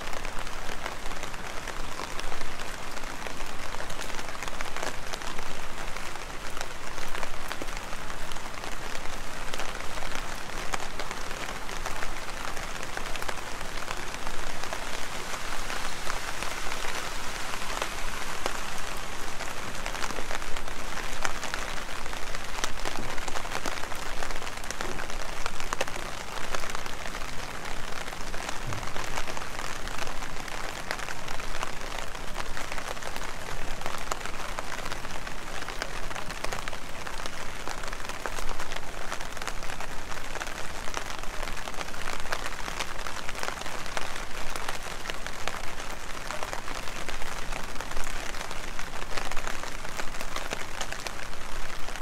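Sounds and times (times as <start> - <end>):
heavy rain: 0.0 - 52.0
raindrops pattering close by: 0.0 - 52.0.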